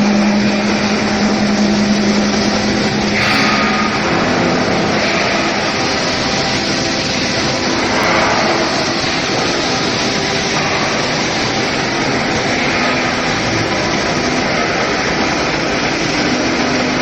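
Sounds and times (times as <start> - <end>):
loud machinery noise: 0.0 - 17.0.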